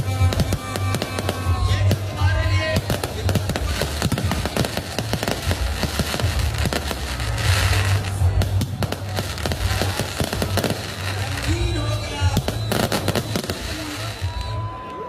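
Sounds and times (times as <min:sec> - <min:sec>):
hissing crackle: 0:00.0 - 0:14.6
firework bangs and crackling: 0:00.0 - 0:15.0.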